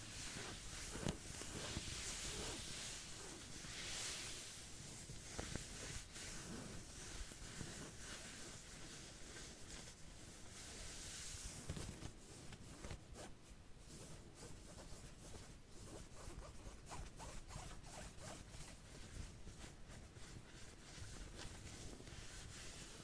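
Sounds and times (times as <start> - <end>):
back scratching strokes: 0.0 - 23.0.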